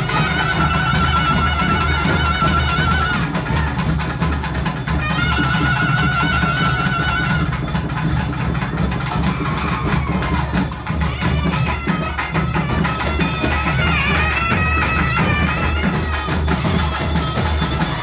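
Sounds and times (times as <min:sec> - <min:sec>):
drums beating steady rhythm: 0:00.0 - 0:18.0
wind instrument gliding melody: 0:00.0 - 0:18.0.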